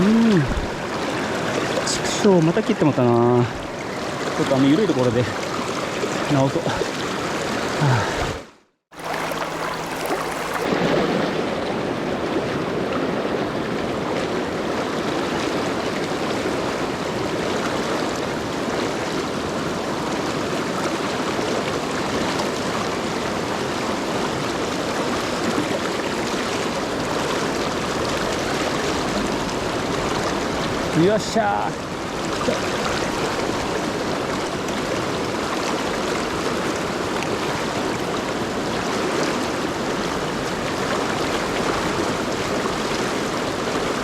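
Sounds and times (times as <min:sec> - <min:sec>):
rushing river current: 0:00.0 - 0:44.0.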